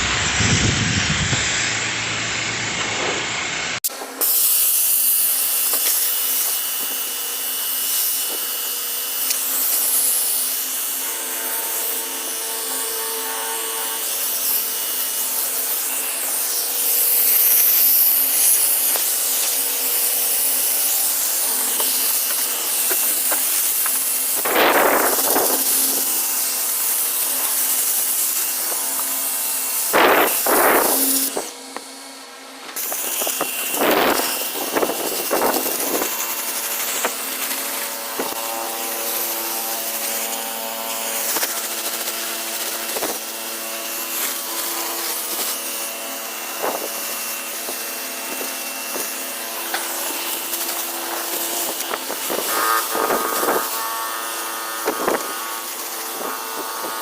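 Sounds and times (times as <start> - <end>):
small motor rasping: 0.0 - 57.0.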